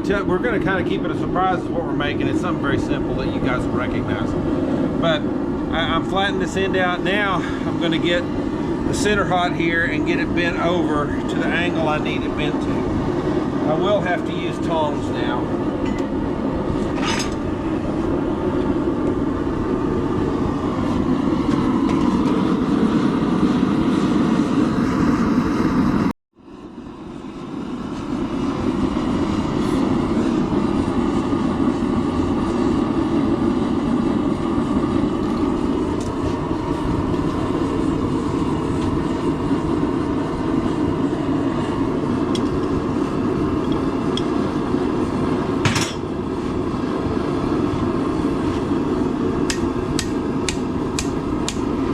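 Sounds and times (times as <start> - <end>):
forge roaring: 0.0 - 51.9.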